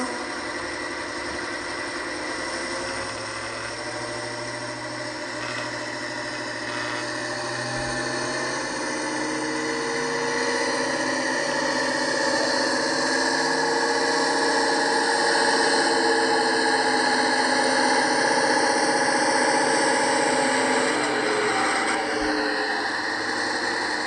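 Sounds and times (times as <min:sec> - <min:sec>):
diesel engine sound through small speaker: 0:00.0 - 0:24.0.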